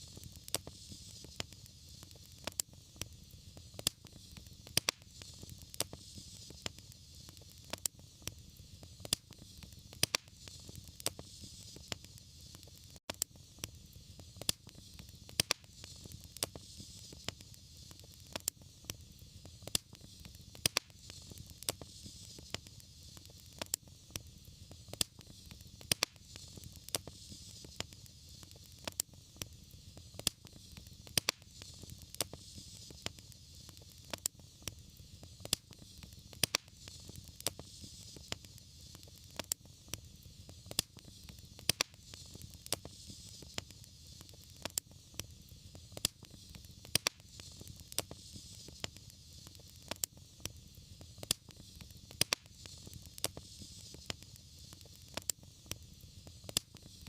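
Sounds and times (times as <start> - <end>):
fireplace fire crackling: 0.0 - 57.0
sharp fire pops: 0.0 - 57.0.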